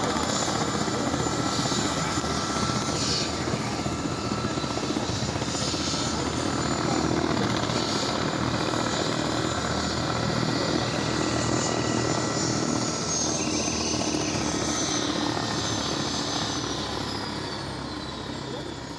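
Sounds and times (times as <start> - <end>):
helicopter turbine engines running: 0.0 - 18.9.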